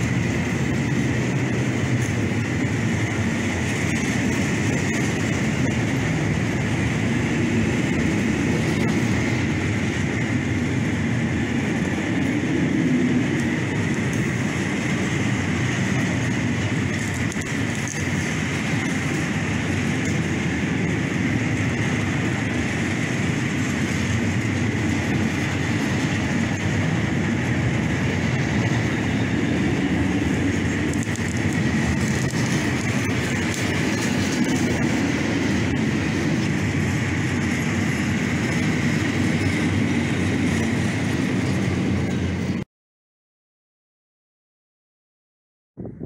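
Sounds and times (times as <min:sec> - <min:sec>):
freight train wheels rumbling: 0:00.0 - 0:42.6.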